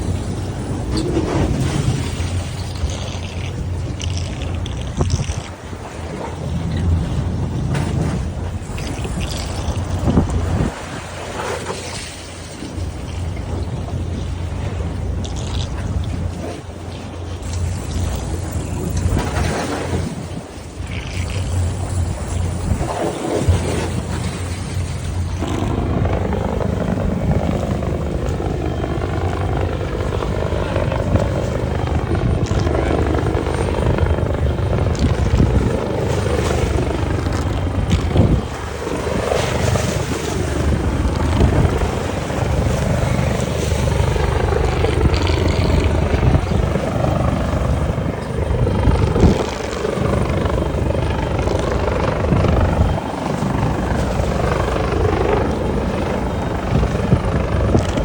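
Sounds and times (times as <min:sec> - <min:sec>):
engine running steady drone: 0:00.0 - 0:58.0.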